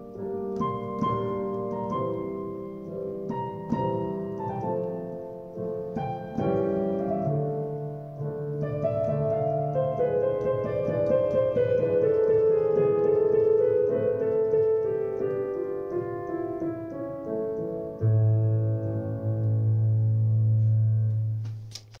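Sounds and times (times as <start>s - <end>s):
gentle digital piano piece: 0.0s - 22.0s.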